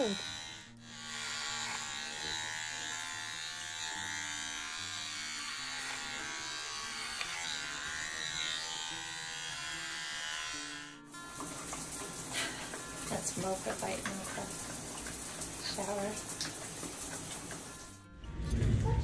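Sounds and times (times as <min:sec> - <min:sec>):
electric clippers buzzing: 0:00.0 - 0:18.1.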